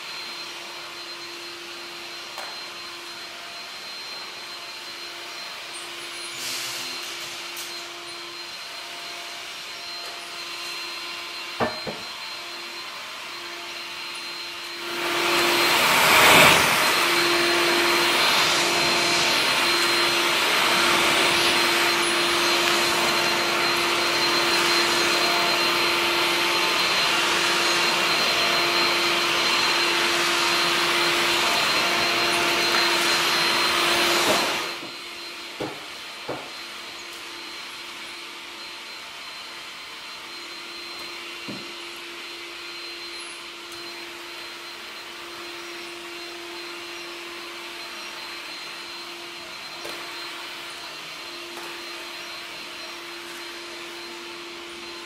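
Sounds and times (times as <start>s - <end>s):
backpack vacuum running: 0.0s - 55.0s.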